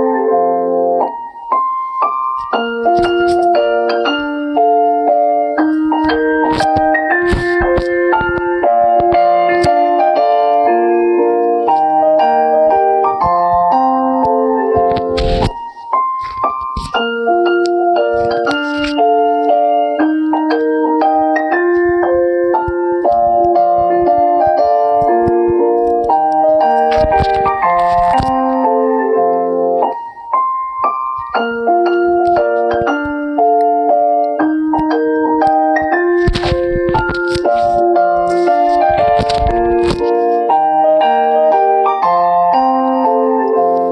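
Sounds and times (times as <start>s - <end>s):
phone ringtone electric piano melody: 0.0s - 43.9s.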